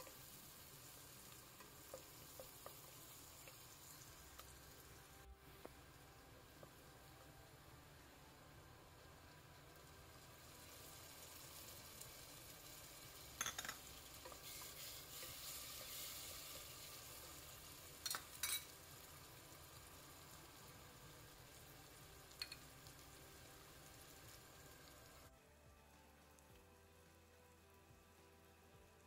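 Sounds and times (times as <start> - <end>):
vegetables sizzling in oil: 0.0 - 25.3.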